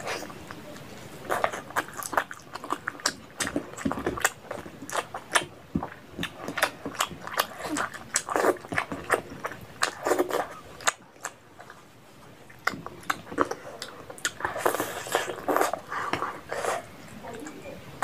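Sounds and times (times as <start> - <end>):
wet chewing and lip-smacking: 0.0 - 17.6.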